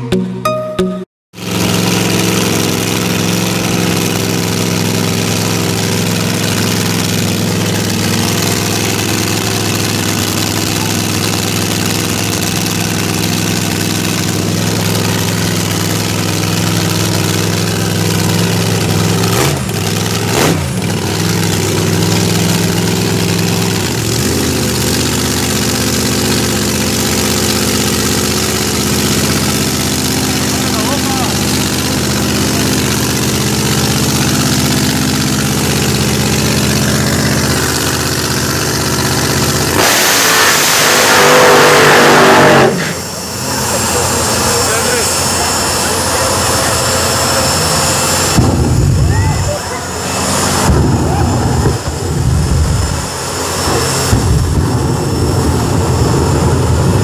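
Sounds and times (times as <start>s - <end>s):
racing car engine idling and revving: 1.3s - 57.0s.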